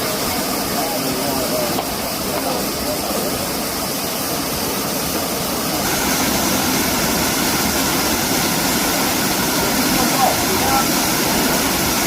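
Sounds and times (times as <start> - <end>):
rush of falling water: 0.0 - 12.0.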